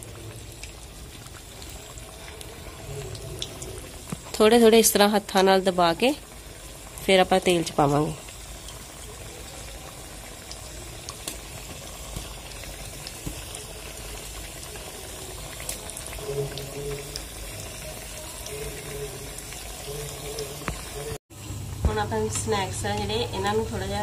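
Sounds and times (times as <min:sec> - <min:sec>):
deep-frying oil sizzling: 0:00.0 - 0:24.0.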